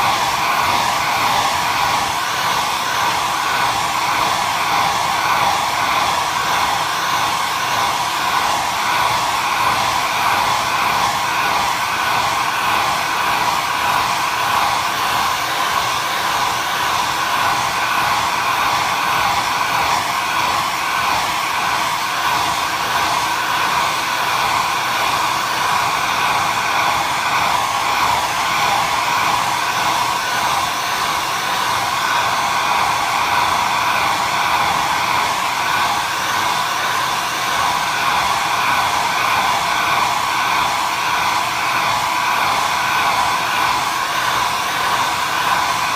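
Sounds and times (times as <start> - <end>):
hair dryer blowing: 0.0 - 45.9.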